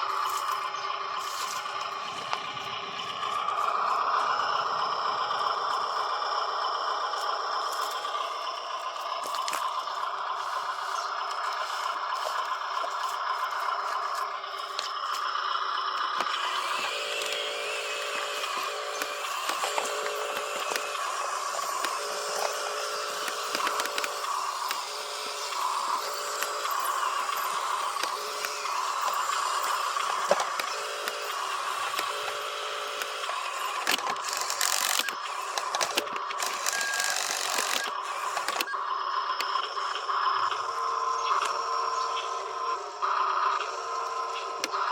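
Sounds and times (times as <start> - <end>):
plastic parts rattling and scraping: 0.0 - 5.9, 7.2 - 15.4, 16.0 - 38.8
small electric motors running: 0.0 - 44.9.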